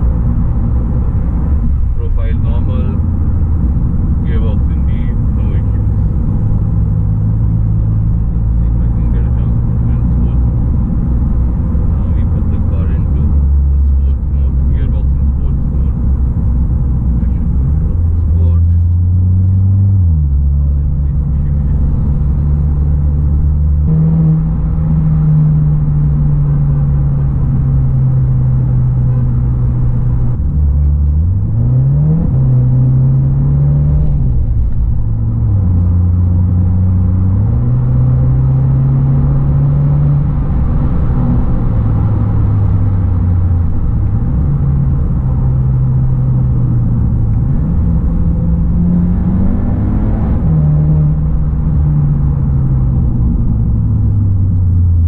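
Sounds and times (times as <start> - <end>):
car engine drone inside cabin: 0.0 - 55.0.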